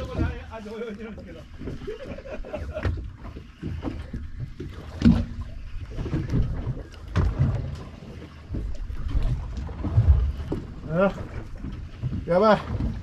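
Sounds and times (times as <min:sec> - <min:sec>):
waves slapping boat hull: 0:00.0 - 0:13.0.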